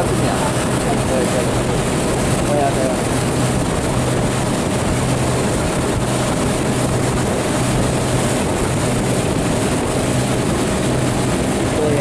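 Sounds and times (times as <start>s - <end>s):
motorboat engine running: 0.0s - 12.0s
water rushing: 0.0s - 12.0s
wind: 0.0s - 12.0s.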